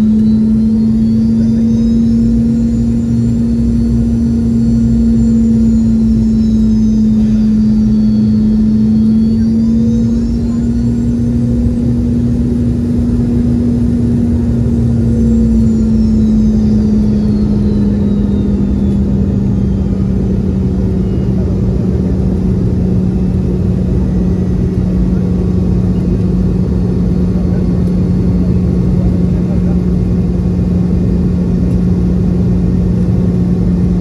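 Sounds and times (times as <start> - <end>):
faint high whines: 0.0 - 34.0
jet engine cabin drone: 0.0 - 34.0
low hum: 0.0 - 34.0.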